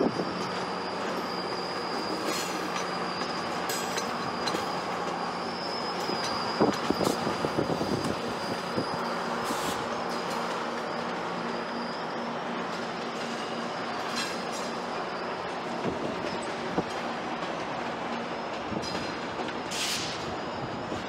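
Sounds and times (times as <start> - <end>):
diesel locomotive engine drone: 0.0 - 21.0
high wheel squeals: 0.0 - 21.0.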